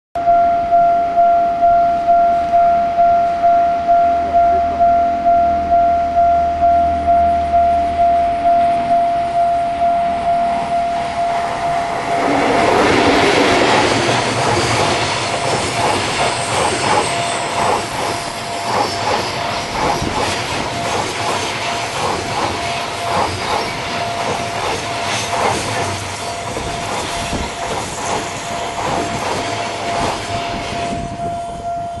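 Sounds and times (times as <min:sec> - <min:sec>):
freight train passing: 0:00.2 - 0:32.0
steady high tone: 0:00.2 - 0:32.0.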